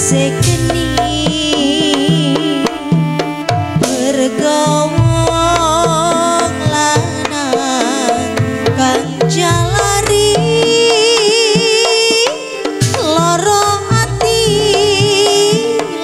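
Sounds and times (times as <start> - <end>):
hand drums: 0.0 - 16.0.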